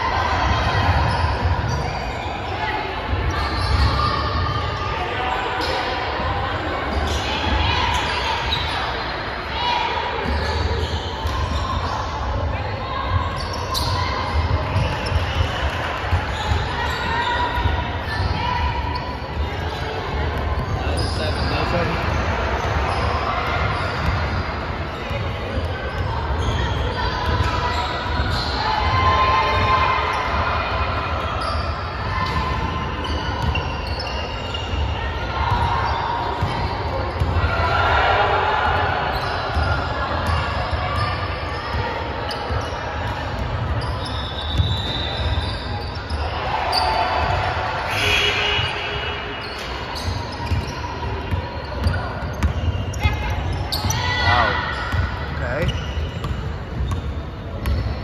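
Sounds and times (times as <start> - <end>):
players and spectators noise: 0.0 - 58.0
sneaker squeaks: 0.0 - 58.0.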